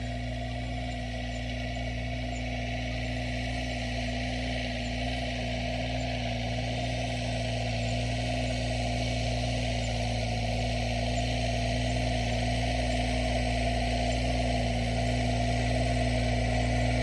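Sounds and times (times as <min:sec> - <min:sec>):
small tractor engine humming: 0:00.0 - 0:17.0.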